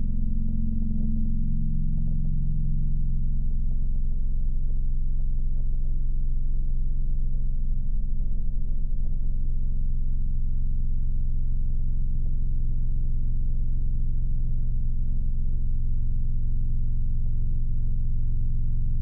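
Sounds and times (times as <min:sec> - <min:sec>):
low mechanical engine drone: 0:00.0 - 0:19.0.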